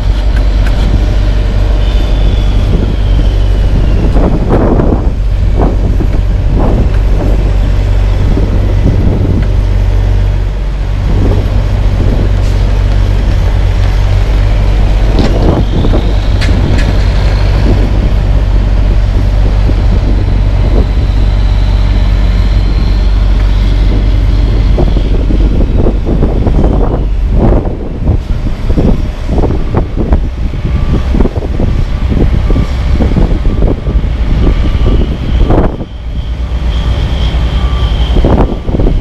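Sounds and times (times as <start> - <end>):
truck diesel engine rumbling: 0.0 - 39.0
wind buffeting microphone: 0.0 - 39.0.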